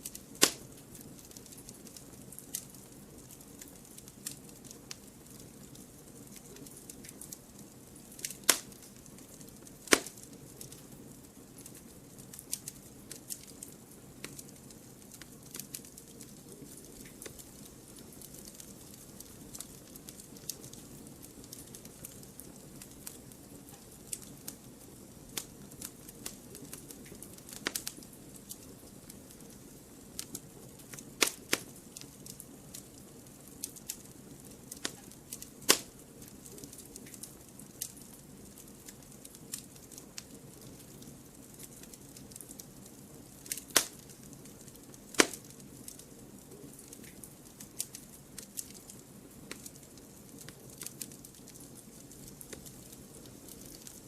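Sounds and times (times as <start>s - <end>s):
loud fire pops: 0.0s - 54.0s
wood fire crackling: 0.0s - 54.0s.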